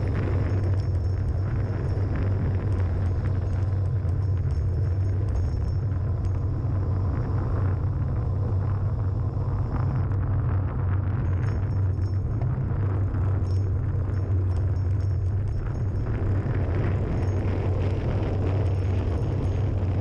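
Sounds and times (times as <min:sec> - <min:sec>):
light high rattles: 0:00.0 - 0:07.8, 0:11.0 - 0:20.0
wind buffeting microphone: 0:00.0 - 0:20.0.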